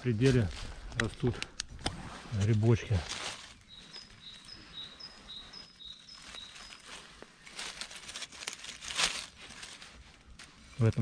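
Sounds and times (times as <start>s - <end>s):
dry leaves crackling and rustling: 0.0s - 1.3s, 1.9s - 11.0s.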